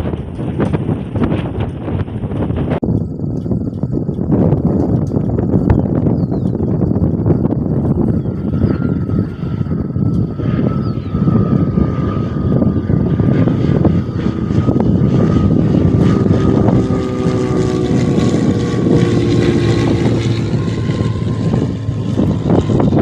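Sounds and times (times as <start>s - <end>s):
airliner engines passing: 0.0s - 23.0s
wind rumbling on microphone: 0.0s - 23.0s.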